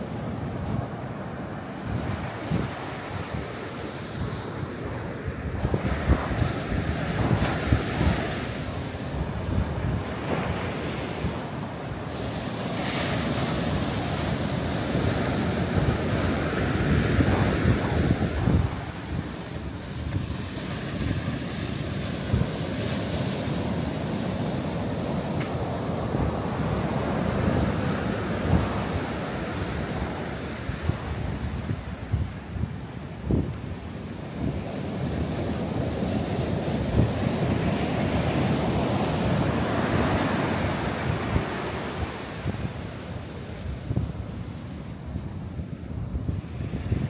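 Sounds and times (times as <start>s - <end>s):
ocean surf breaking: 0.0s - 47.0s
wind buffeting microphone: 0.0s - 47.0s.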